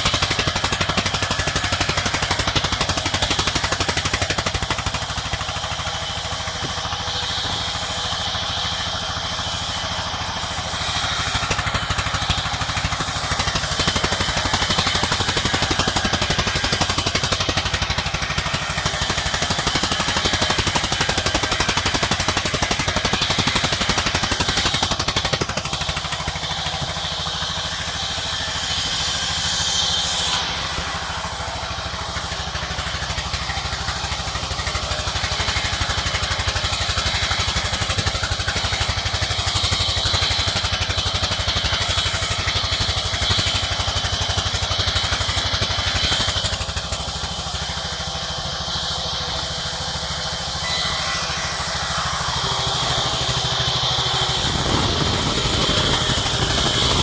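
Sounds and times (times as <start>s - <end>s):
machinery hiss: 0.0s - 57.0s
sawmill machinery drone: 0.0s - 57.0s.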